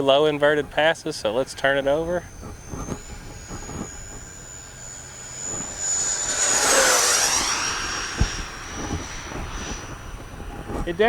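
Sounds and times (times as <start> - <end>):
model jet ducted fans whining: 0.0 - 11.0
wind buffeting microphone: 0.0 - 11.0.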